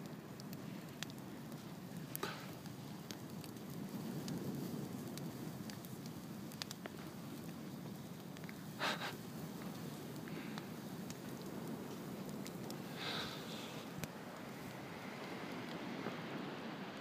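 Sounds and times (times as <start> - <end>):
bonfire burning: 0.0 - 17.0
fire crackles and pops: 0.0 - 17.0.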